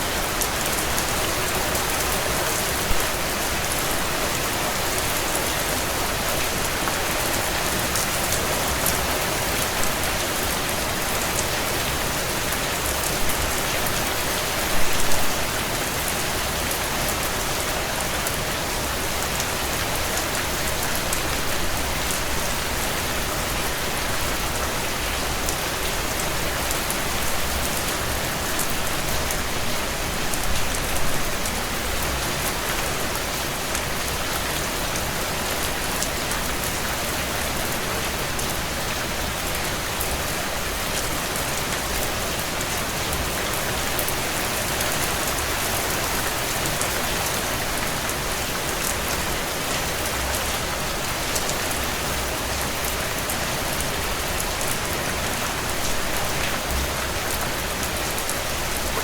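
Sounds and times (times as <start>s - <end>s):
heavy rain on window panes: 0.0s - 59.0s.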